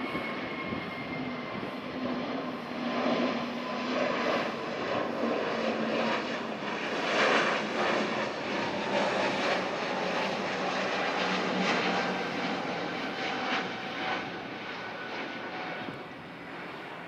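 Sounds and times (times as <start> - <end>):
jet roar with faint whine: 0.0 - 17.0.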